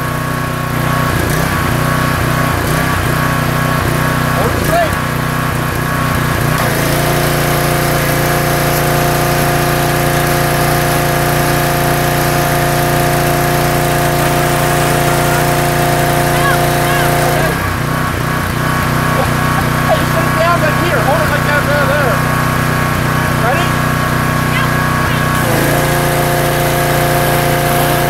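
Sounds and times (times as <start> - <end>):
high-pressure water jet spraying: 0.0 - 28.0
pressure washer engine running: 0.0 - 28.0.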